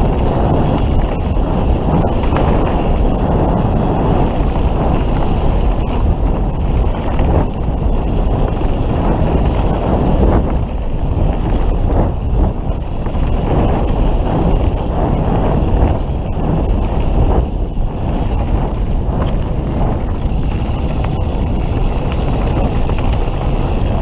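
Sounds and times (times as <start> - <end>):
bike tyres rolling on dirt: 0.0 - 24.0
wind on microphone: 0.0 - 24.0.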